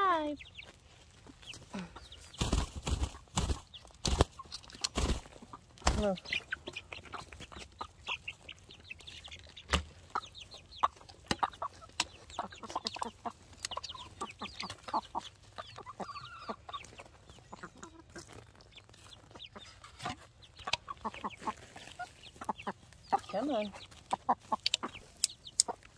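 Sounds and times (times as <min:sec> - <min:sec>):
chicks peeping: 0:00.0 - 0:25.9
hens clucking: 0:00.0 - 0:25.9.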